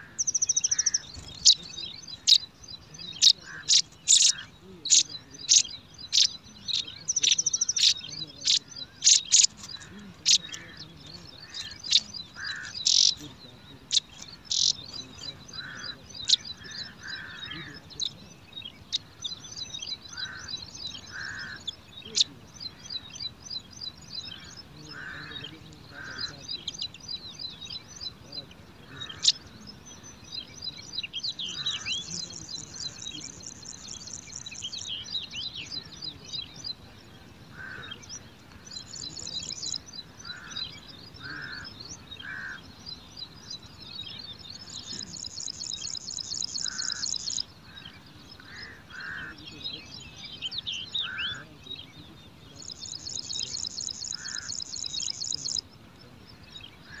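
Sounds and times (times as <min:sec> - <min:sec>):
high buzzing bird trill: 0:00.0 - 0:28.2, 0:28.8 - 0:36.7, 0:37.4 - 0:51.5, 0:52.5 - 0:55.7
wild birds chirping: 0:00.0 - 0:57.0.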